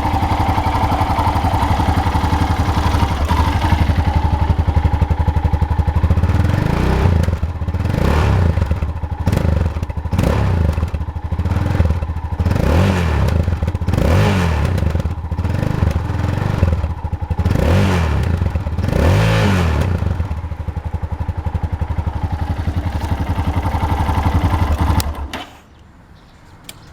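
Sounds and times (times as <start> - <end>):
motorcycle engine idling: 0.0 - 25.4
motorcycle engine revving: 0.0 - 25.4.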